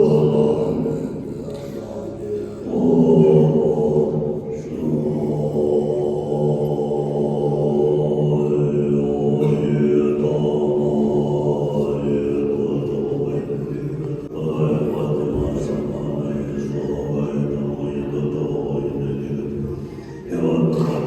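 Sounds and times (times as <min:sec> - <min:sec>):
monks chanting in low voices: 0:00.0 - 0:21.0.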